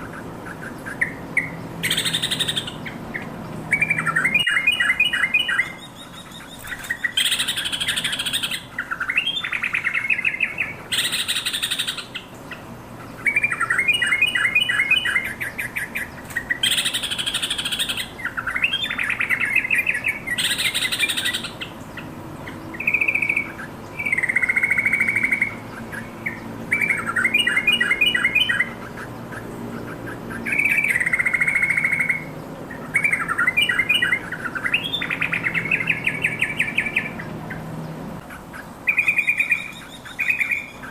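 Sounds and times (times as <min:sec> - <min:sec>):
bird singing bubbly phrases: 0:00.0 - 0:40.9
harsh rasping bird calls: 0:00.0 - 0:40.9.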